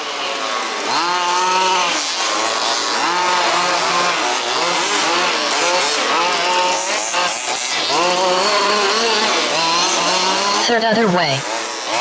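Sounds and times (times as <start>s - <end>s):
small engines revving: 0.0s - 12.0s.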